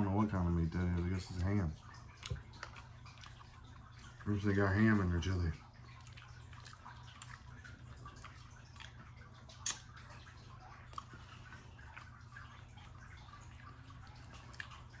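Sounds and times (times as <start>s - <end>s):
wet chewing sounds: 0.0s - 15.0s.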